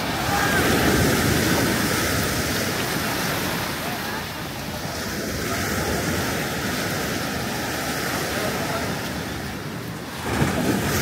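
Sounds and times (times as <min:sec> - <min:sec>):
wind on microphone: 0:00.0 - 0:03.8, 0:04.7 - 0:11.0
waves washing onto beach: 0:00.0 - 0:11.0.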